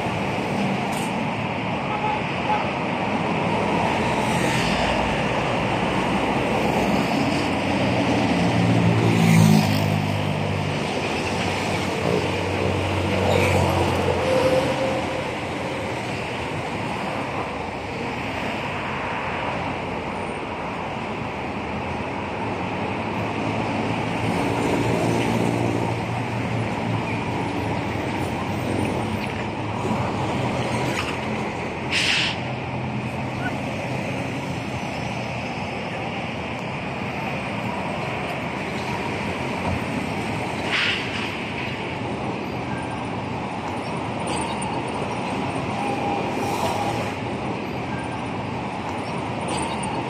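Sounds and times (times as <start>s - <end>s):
road noise hum: 0.0s - 50.0s.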